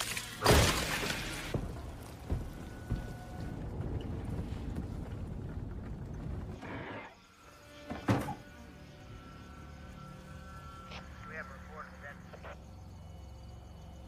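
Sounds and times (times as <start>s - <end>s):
low rumbling horror score: 0.0s - 14.0s
ominous drone: 1.5s - 14.0s.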